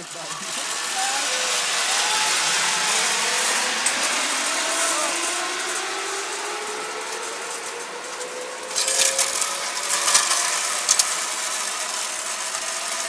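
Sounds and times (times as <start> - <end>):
faint whine rising in pitch: 0.0 - 13.0
hissing metallic rattle with clicks: 0.0 - 13.0.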